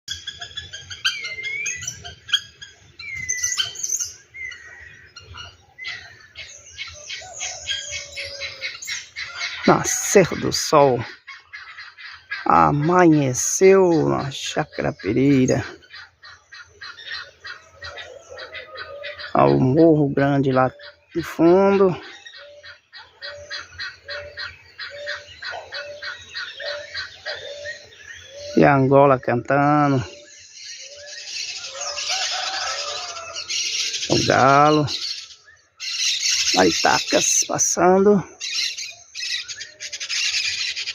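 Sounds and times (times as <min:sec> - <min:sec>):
wood-rails calling: 0:00.1 - 0:40.9.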